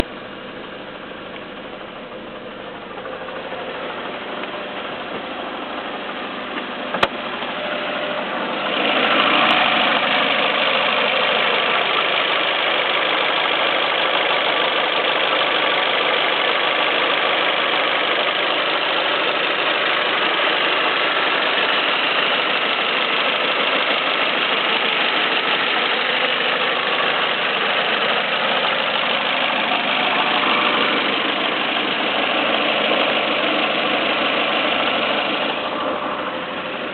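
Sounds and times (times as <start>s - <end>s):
car engine idling: 0.0s - 36.9s
engine clacking: 0.0s - 36.9s.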